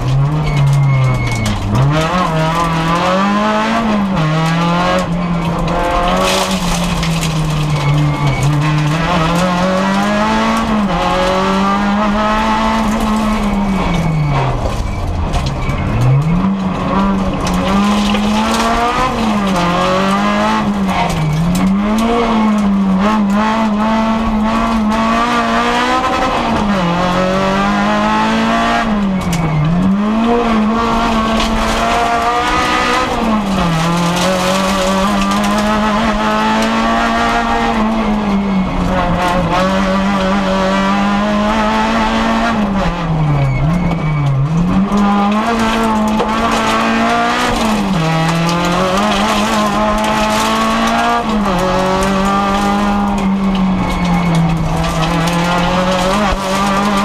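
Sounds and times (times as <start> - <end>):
car engine revving: 0.0 - 57.0
road noise: 0.0 - 57.0.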